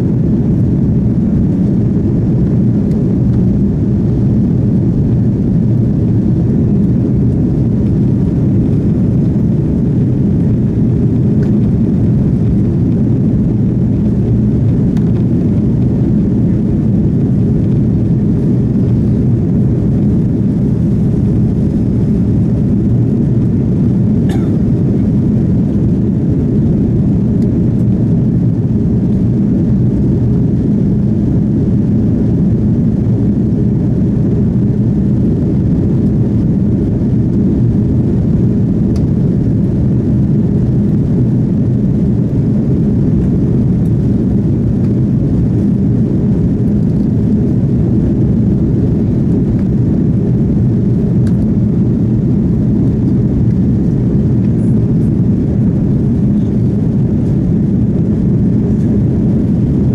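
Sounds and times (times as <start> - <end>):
airplane cabin roar: 0.0 - 59.9.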